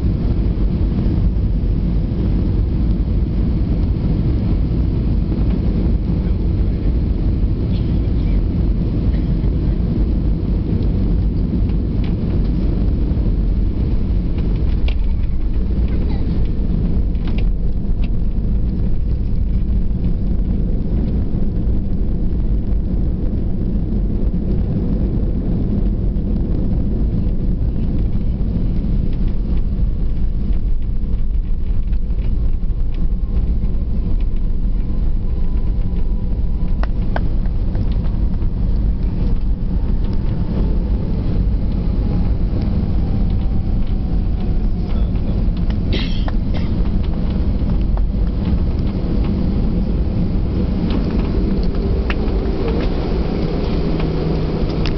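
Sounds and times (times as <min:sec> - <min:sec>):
aircraft cabin rumble: 0:00.0 - 0:54.9.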